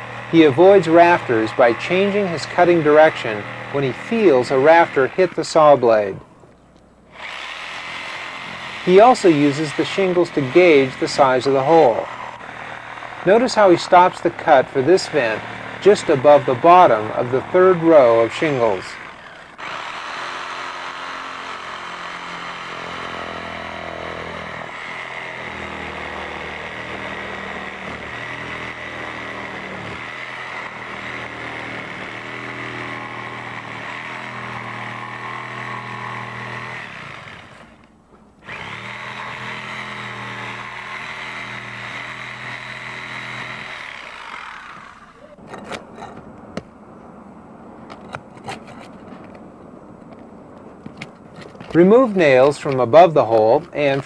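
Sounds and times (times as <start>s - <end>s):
reciprocating saw cutting shingles: 0.0s - 6.3s, 7.1s - 46.6s, 47.9s - 49.4s, 50.7s - 54.0s.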